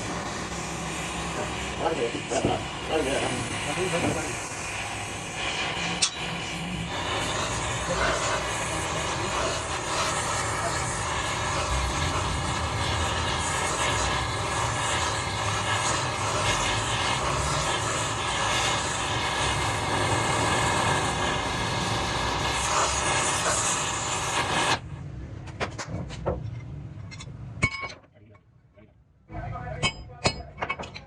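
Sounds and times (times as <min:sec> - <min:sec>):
workshop machine running: 0:00.0 - 0:25.5.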